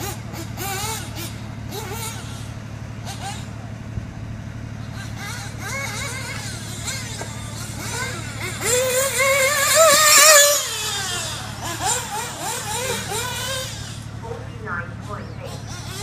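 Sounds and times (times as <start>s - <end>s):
model engine buzzing: 0.0s - 16.0s.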